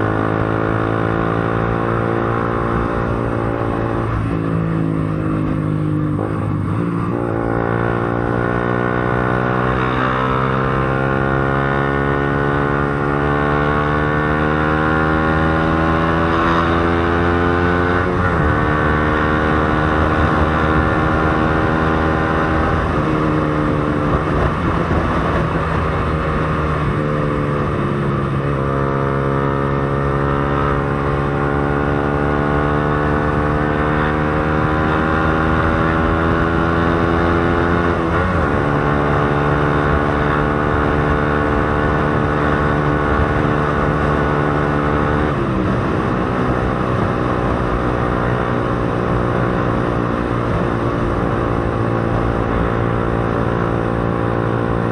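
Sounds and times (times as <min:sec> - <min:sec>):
motorcycle engine shifting gears: 0:00.0 - 0:54.9.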